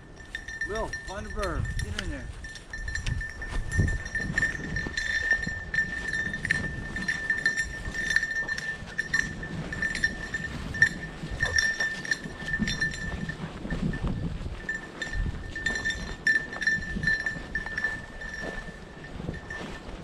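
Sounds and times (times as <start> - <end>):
dog collar bell jingling: 0.0 - 20.0
footsteps swishing through brush: 2.3 - 20.0.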